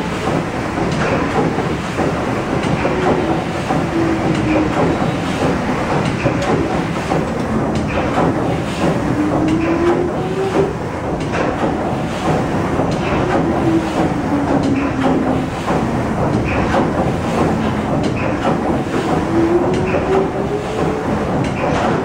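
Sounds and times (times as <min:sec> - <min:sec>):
steam engine clanking and knocking: 0:00.0 - 0:22.0.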